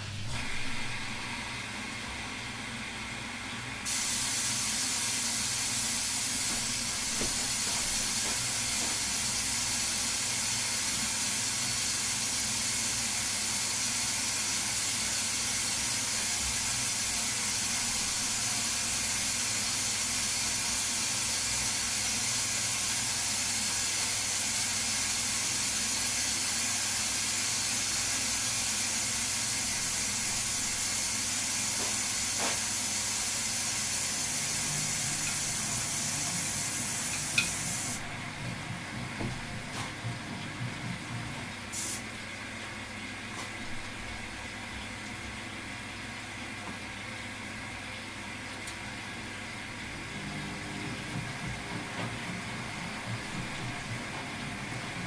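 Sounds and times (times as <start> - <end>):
washing machine water rushing: 0.0 - 55.0.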